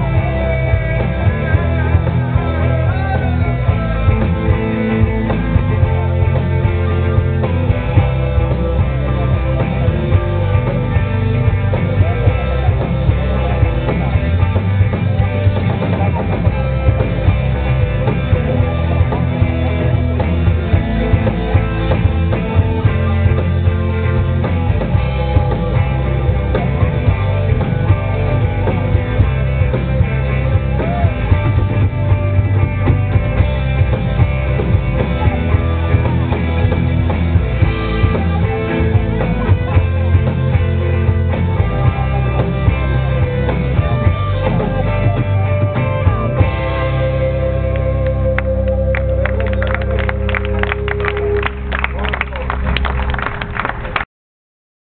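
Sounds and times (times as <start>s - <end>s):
rock band playing live: 0.0s - 53.8s.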